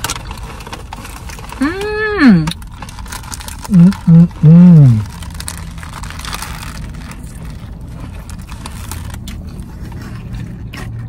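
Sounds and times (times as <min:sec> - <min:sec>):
chewing with crunches: 0:00.0 - 0:11.0.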